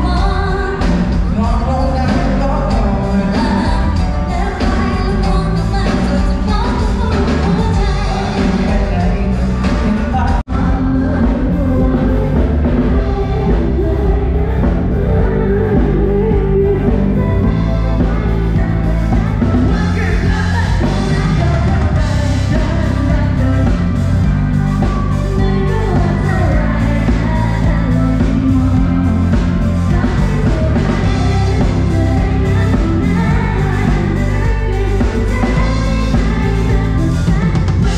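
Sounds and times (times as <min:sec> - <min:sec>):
lead singer singing: 0:00.0 - 0:37.9
live rock band: 0:00.0 - 0:37.9.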